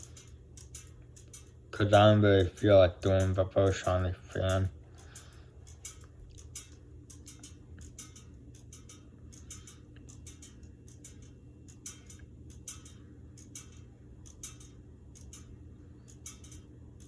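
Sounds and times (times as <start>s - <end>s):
ceiling fan humming: 0.0s - 17.0s
fan ticking: 0.0s - 17.0s.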